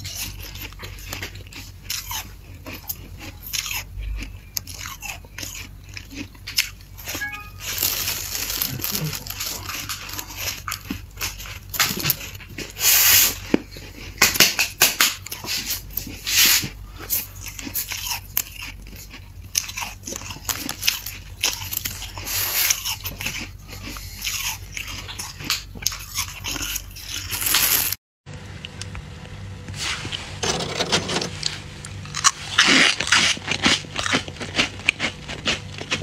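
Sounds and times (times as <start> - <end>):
frost being chewed crunching: 0.0 - 28.0, 31.4 - 36.0.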